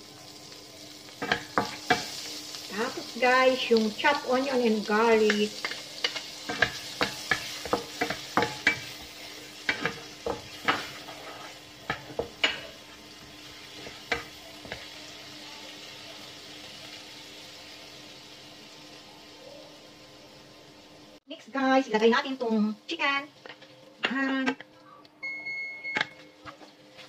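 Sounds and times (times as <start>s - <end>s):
onion sizzling in butter: 0.0s - 24.7s.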